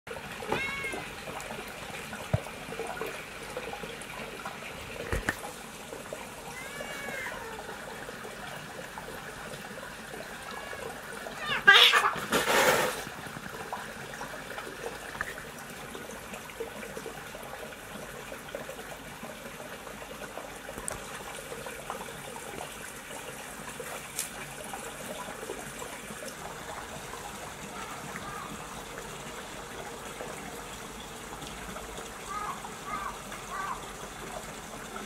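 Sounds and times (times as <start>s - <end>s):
running water trickling: 0.1s - 35.0s.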